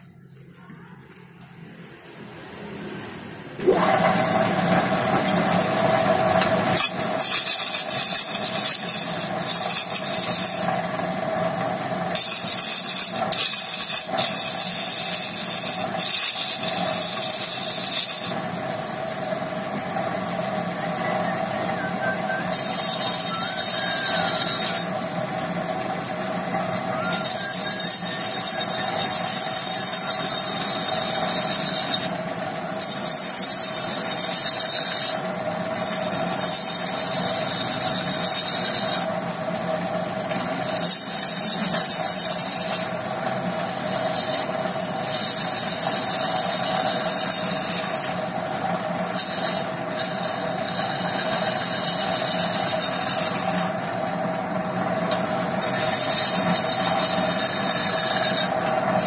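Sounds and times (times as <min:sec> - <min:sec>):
turning tool scraping wood: 0:03.6 - 0:21.0, 0:21.7 - 0:39.2, 0:39.8 - 0:59.0
wood lathe motor hum: 0:03.6 - 0:59.0.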